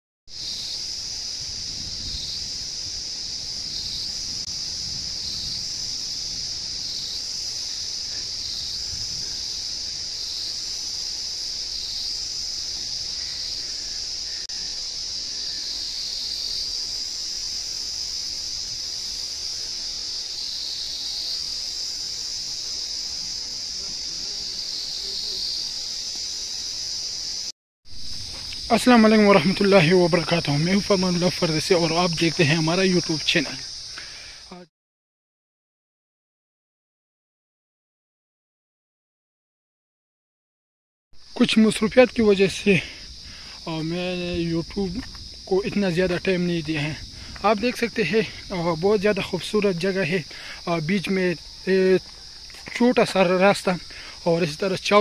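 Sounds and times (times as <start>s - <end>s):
high-pitched insect chorus: 0.3s - 34.7s, 41.2s - 55.0s.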